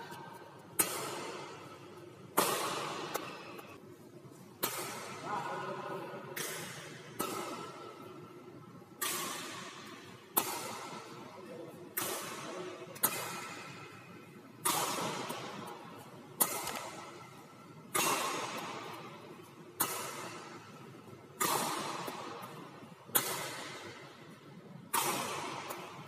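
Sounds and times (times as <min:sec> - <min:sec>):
racket smacking shuttlecock: 0:00.0 - 0:03.7, 0:04.6 - 0:05.2, 0:06.4 - 0:08.1, 0:08.9 - 0:11.2, 0:11.9 - 0:13.9, 0:14.6 - 0:26.0.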